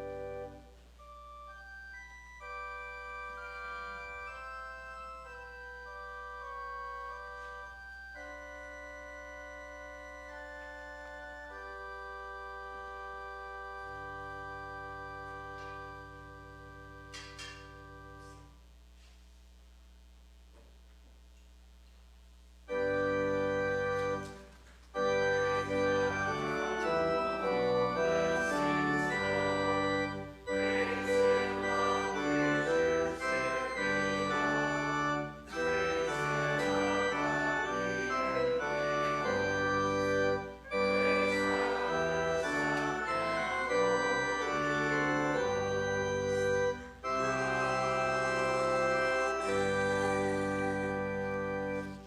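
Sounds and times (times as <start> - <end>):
organ playing sustained chords: 0.0 - 18.6, 22.6 - 52.0.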